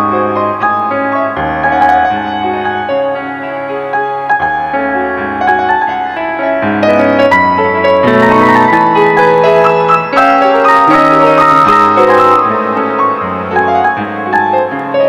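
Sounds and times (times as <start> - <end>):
instrumental piano music: 0.0 - 15.0.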